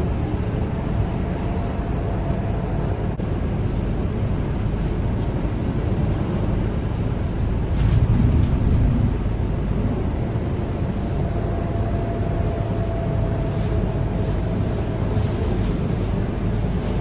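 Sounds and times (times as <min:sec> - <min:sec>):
bus diesel engine and road rumble: 0:00.0 - 0:17.0
faint steady whine: 0:00.0 - 0:17.0.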